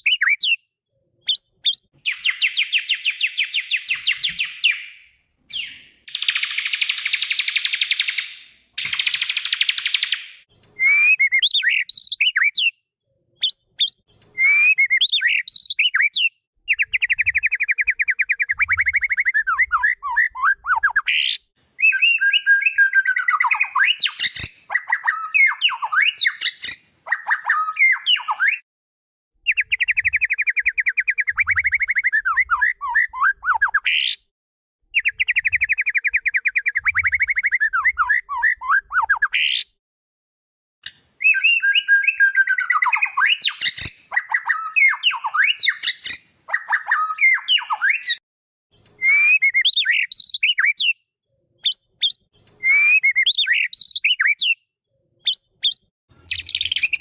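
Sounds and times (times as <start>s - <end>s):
bird singing trills and whistles: 0.0s - 0.7s, 1.3s - 12.8s, 13.4s - 28.6s, 29.4s - 34.2s, 34.9s - 39.7s, 40.8s - 48.2s, 48.8s - 51.0s, 51.6s - 57.0s.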